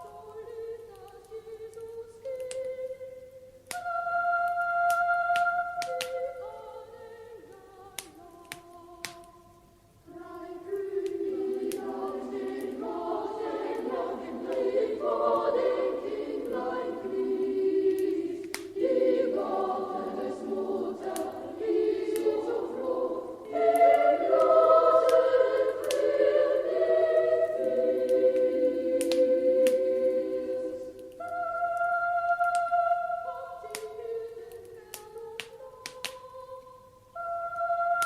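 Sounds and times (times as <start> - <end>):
wood fire crackling: 0.0 - 3.0, 3.6 - 36.8
choir singing a carol: 0.0 - 38.0.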